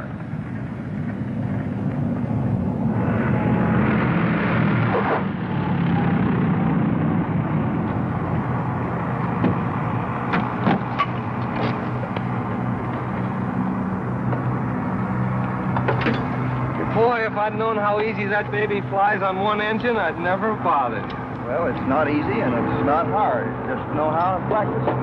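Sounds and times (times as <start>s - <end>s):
aircraft engines rumbling: 0.0s - 25.0s
rush of noise: 0.0s - 25.0s.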